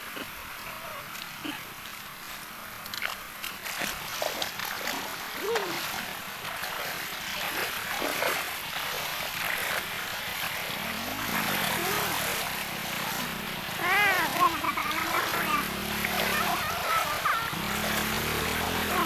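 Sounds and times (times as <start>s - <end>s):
stream rushing over rocks: 0.0s - 19.0s
wading splashes: 0.0s - 19.0s.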